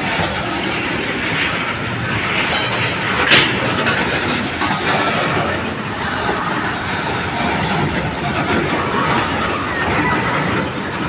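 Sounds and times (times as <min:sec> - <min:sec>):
wagon wheels rumbling on rail: 0:00.0 - 0:11.0.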